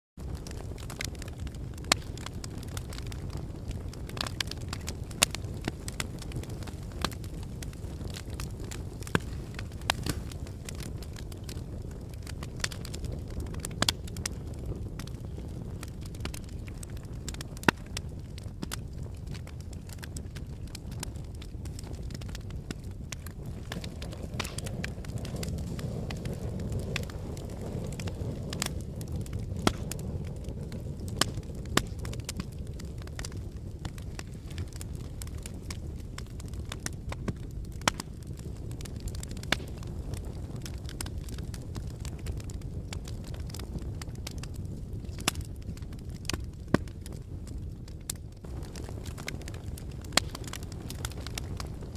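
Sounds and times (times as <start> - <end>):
firewood crackling and popping: 0.2 - 51.9
flames roaring low: 0.2 - 51.9
low rumble of fire: 0.2 - 51.9.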